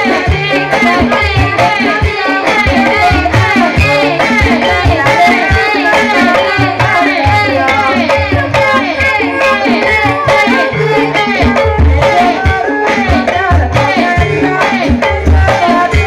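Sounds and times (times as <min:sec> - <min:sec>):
gamelan music: 0:00.0 - 0:16.0
hand drums rhythm: 0:00.0 - 0:16.0.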